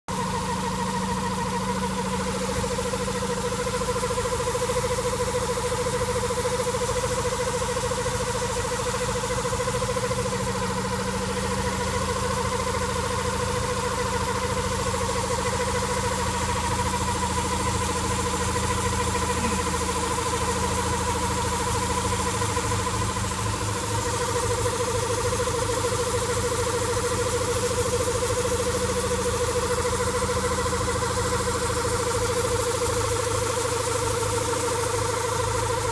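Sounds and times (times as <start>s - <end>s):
car engine running: 0.0s - 35.9s
steady whining tone: 0.1s - 35.9s.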